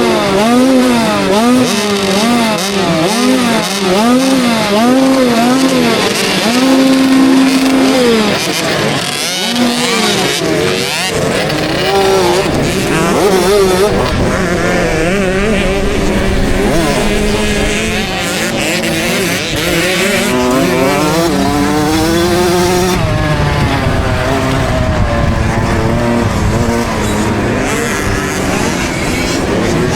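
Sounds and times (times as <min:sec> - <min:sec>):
motocross engine revving: 0:00.0 - 0:29.9.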